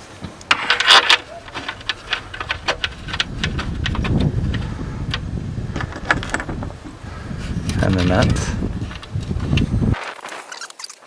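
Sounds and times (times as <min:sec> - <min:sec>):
low rumbling rustle: 0:00.0 - 0:10.4.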